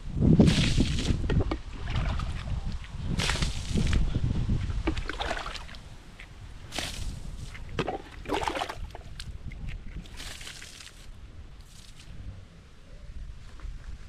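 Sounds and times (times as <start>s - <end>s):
wind rumbling on microphone: 0.0s - 14.0s
water splashing and sloshing: 0.4s - 12.1s.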